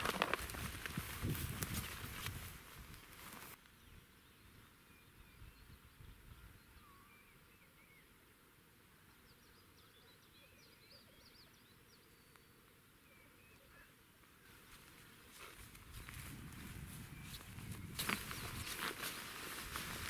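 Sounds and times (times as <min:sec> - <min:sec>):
small birds chirping: 0:01.7 - 0:20.0.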